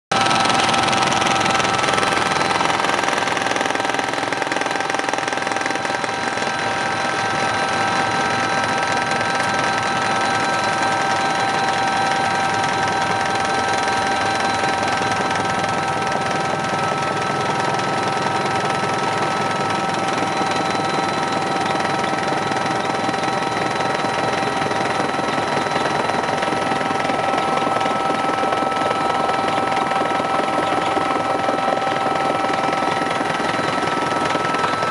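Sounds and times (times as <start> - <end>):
helicopter rotor rumble: 0.1 - 34.9
high engine whine: 0.1 - 34.9.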